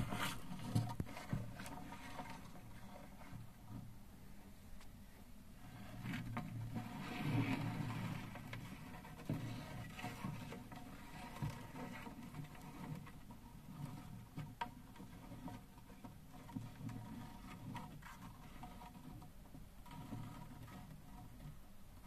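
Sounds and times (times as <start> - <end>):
crab legs scraping plastic: 0.0 - 4.0, 5.6 - 21.7.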